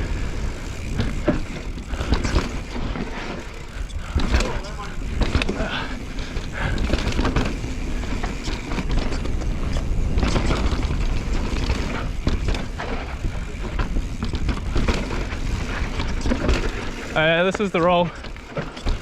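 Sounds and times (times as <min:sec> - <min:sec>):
bike knocking and rattling: 0:00.0 - 0:19.0
tyres rumbling on dirt: 0:00.0 - 0:19.0.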